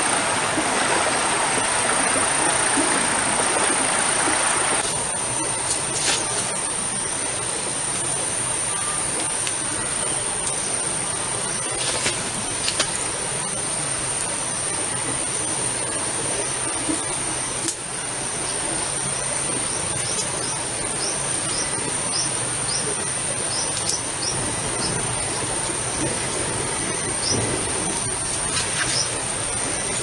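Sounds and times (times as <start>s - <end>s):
campfire crackling: 0.0s - 30.0s
insects droning: 0.0s - 30.0s.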